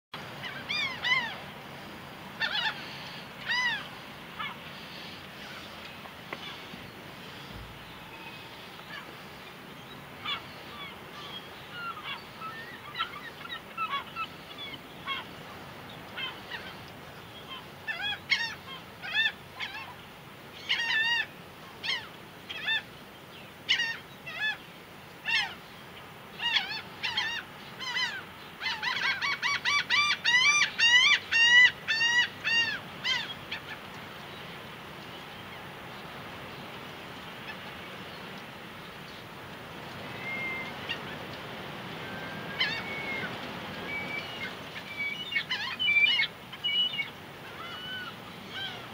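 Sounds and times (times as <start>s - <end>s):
gulls laughing calls: 0.2s - 22.9s, 26.4s - 34.2s, 39.9s - 48.9s
faint steady hiss: 0.2s - 48.9s.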